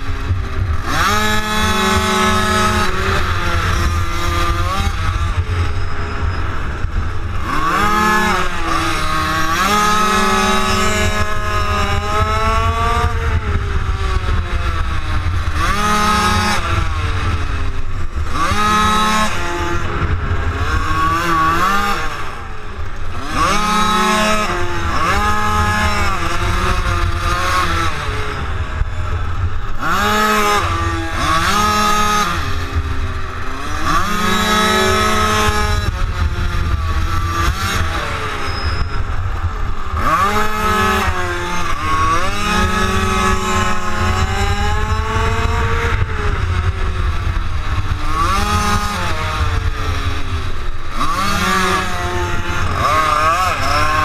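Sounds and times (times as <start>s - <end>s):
motorcycle engines revving: 0.0s - 54.0s
wind rumble on microphone: 0.0s - 54.0s.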